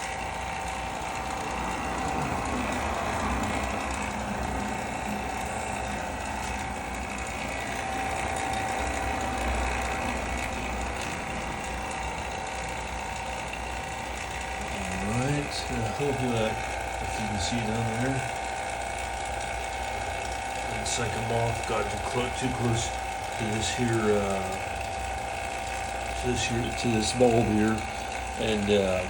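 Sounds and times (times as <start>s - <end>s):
vacuum pump whirring: 0.0s - 29.0s.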